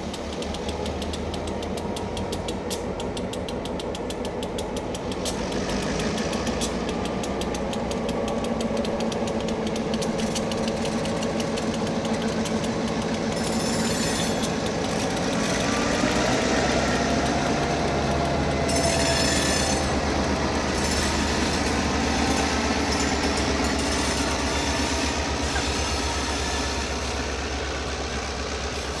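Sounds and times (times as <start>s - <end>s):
diesel locomotive engines rumbling: 0.0s - 29.0s.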